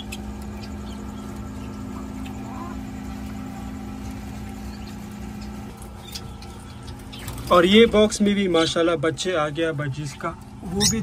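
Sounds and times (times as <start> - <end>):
bird chirps: 0.0 - 8.8, 10.0 - 11.0.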